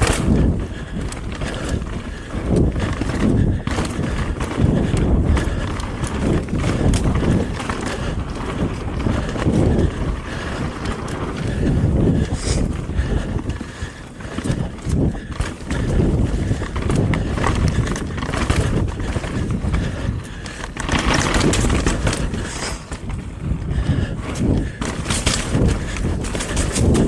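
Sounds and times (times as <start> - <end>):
bike clicking and rattling: 0.0 - 27.0
bike tyres rolling: 0.0 - 27.0
heavy breathing: 0.0 - 27.0.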